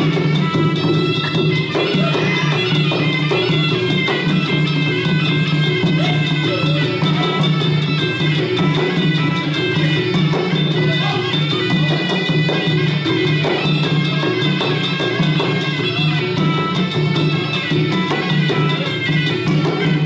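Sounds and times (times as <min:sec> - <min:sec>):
small cymbals: 0:00.0 - 0:20.0
steady drum rhythm: 0:00.0 - 0:20.0.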